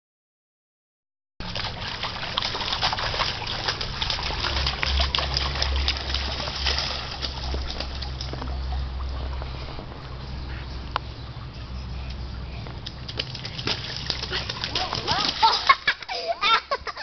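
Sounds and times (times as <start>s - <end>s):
low rumble: 1.4s - 15.4s
feet splashing through water: 1.4s - 16.4s.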